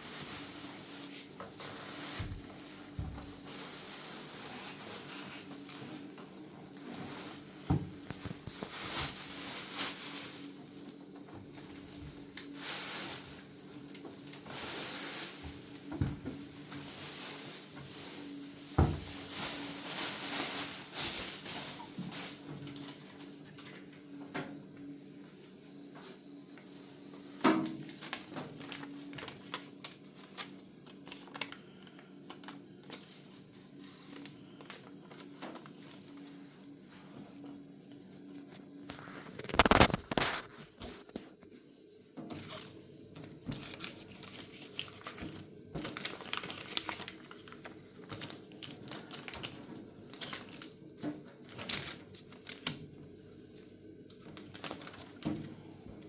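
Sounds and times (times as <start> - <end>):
packaging rustling and crinkling: 0.0 - 23.7, 27.7 - 36.4, 38.4 - 41.4, 42.3 - 56.0.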